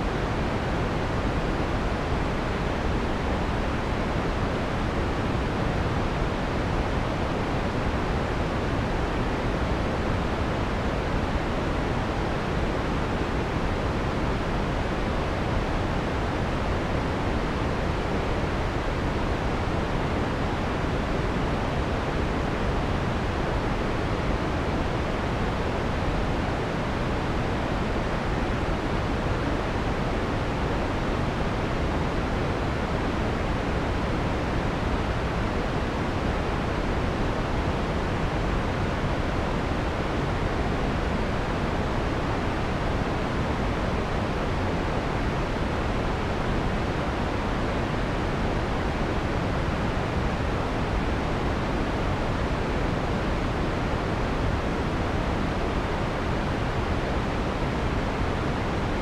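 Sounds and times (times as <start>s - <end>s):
filtered white noise hiss: 0.0s - 59.0s.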